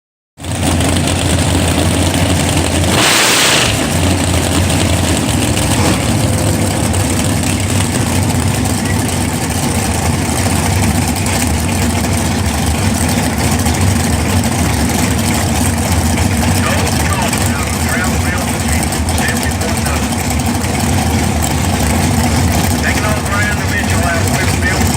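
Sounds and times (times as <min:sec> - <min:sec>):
car engine idling: 0:00.4 - 0:24.9.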